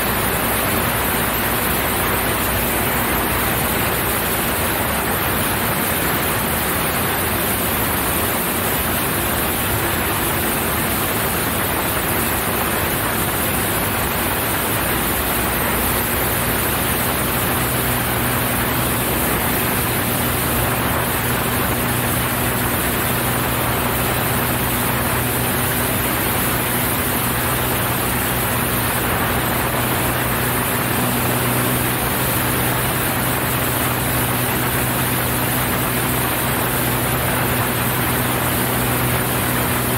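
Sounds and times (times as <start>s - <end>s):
aircraft engine hum: 0.0s - 39.9s.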